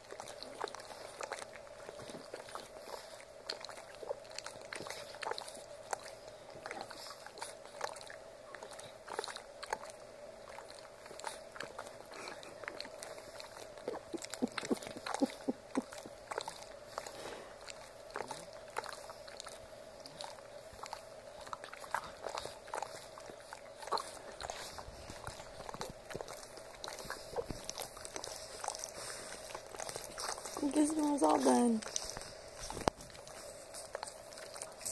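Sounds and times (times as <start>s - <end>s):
dog licking: 0.0s - 34.9s.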